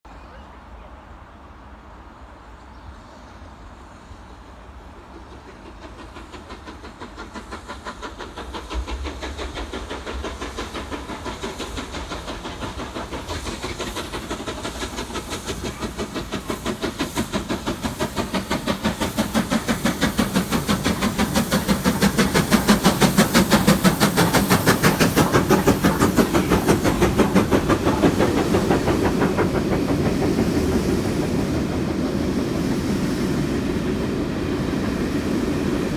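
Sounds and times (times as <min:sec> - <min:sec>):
steam train chuffing and hissing: 0:00.6 - 0:35.9.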